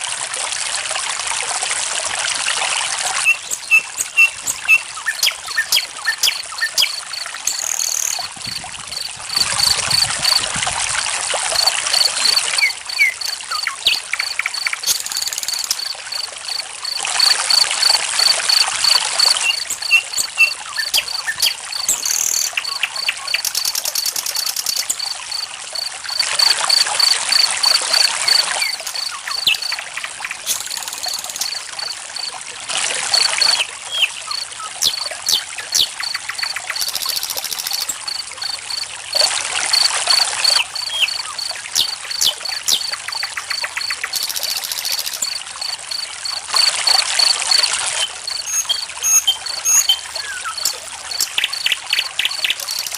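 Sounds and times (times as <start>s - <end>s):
water trickling: 0.0s - 52.9s
cricket chirping: 3.0s - 52.9s
songbird calls: 3.1s - 10.4s, 11.6s - 15.9s, 16.8s - 31.9s, 33.1s - 38.8s, 39.7s - 46.0s, 46.6s - 52.9s.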